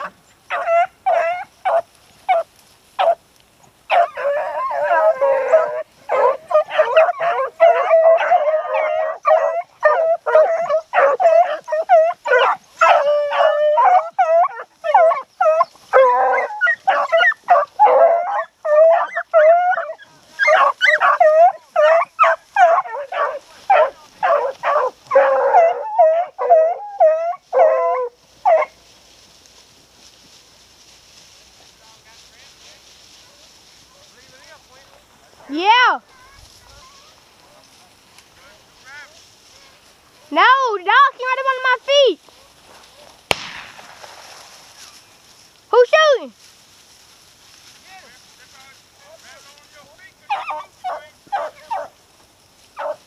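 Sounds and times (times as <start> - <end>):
hounds baying and yelping: 0.0 - 43.2, 44.3 - 53.0.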